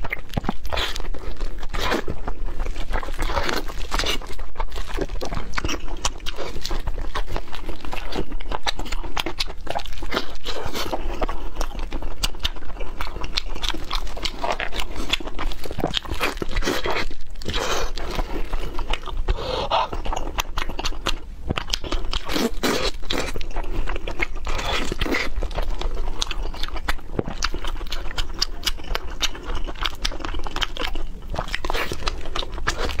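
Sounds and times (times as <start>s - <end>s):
crunching and wet chewing: 0.0s - 33.0s.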